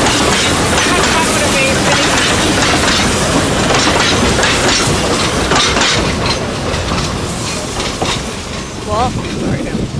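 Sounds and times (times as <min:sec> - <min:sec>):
wheels clicking over rails: 0:00.0 - 0:09.8
steam train rushing: 0:00.0 - 0:09.9.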